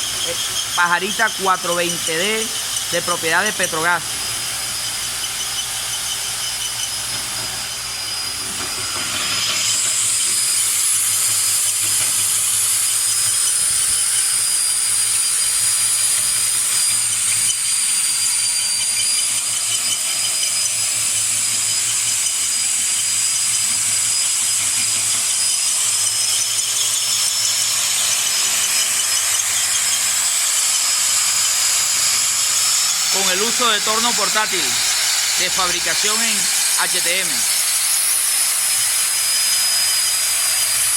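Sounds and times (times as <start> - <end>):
boring machine high-pitched whine: 0.0 - 40.9.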